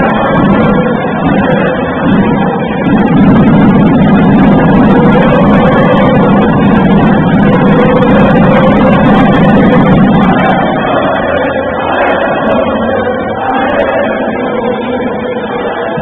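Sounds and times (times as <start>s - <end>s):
crowd din in a hall: 0.0s - 16.0s.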